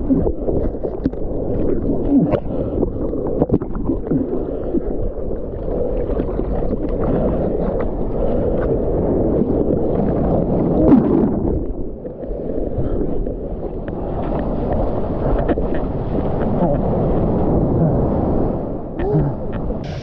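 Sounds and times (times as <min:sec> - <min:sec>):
bubbling gurgles underwater: 0:00.0 - 0:20.0
surf churning and splashing: 0:00.0 - 0:20.0.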